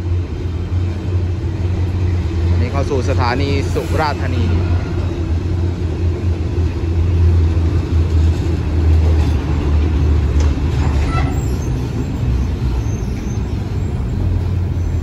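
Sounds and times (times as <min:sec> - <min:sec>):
diesel train engine humming: 0:00.0 - 0:15.0.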